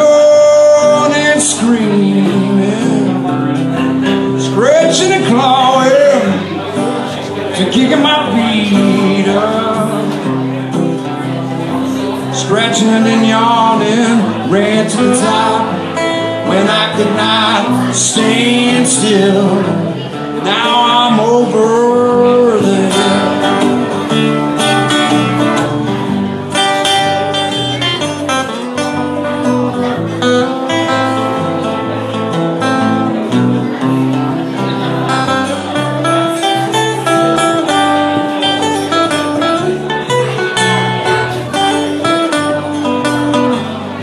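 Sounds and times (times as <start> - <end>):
acoustic guitar: 0.0 - 44.0
electric guitar: 0.0 - 44.0.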